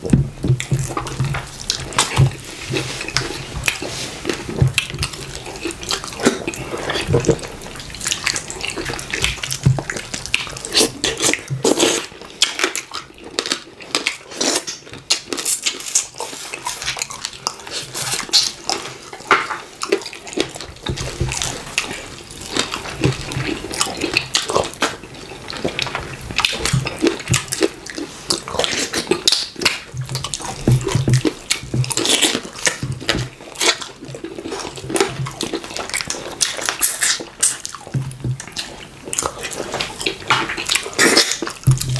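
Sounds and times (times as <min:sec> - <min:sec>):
wet chewing and lip-smacking: 0:00.0 - 0:41.9.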